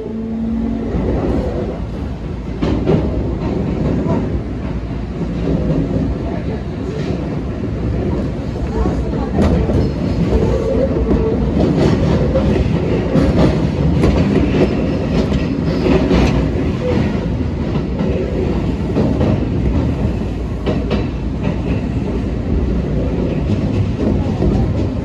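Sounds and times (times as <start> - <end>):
train wheels rumbling on rail: 0.0 - 25.0
clacks over rail joints: 2.4 - 25.0.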